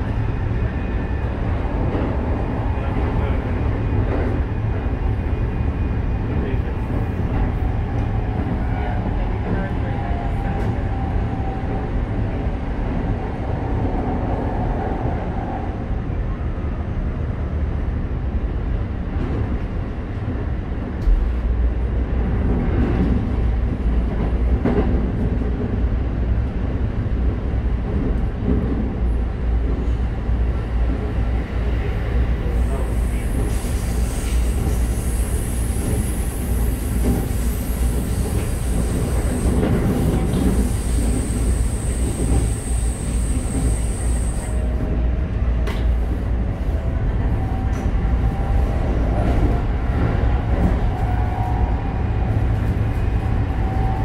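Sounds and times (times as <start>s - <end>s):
train wheel and rail rumble: 0.0s - 54.0s.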